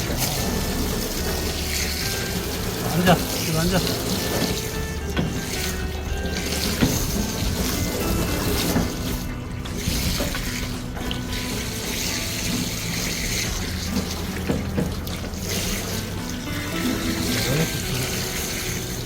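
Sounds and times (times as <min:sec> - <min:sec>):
water running: 0:00.0 - 0:19.0.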